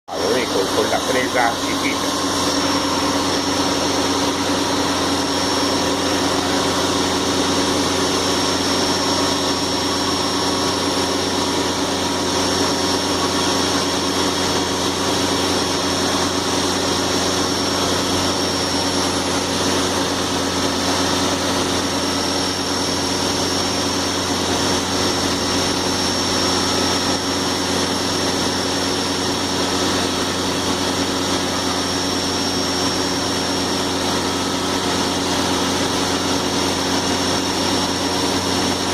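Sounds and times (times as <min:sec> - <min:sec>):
high-pitched machine whine: 0:00.1 - 0:38.9
machine hum: 0:00.1 - 0:38.9.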